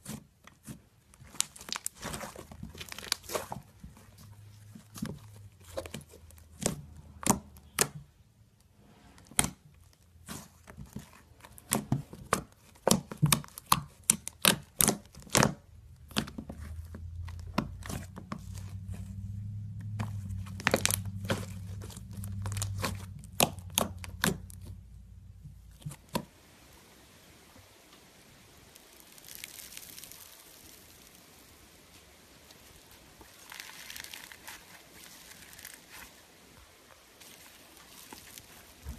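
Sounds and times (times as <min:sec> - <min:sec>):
faint crackle of stretched slime: 0:00.0 - 0:08.0, 0:08.6 - 0:26.3, 0:27.6 - 0:38.9.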